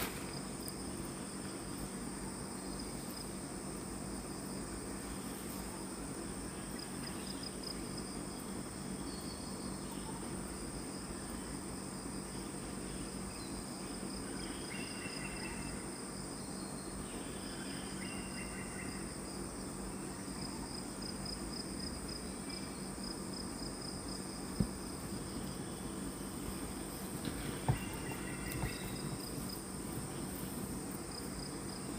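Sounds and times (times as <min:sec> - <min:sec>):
insects droning: 0:00.0 - 0:31.9.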